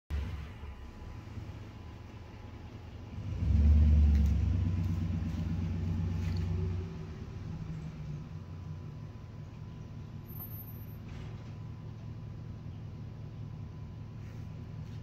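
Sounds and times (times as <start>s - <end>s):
vehicle engine running: 0.1s - 15.0s.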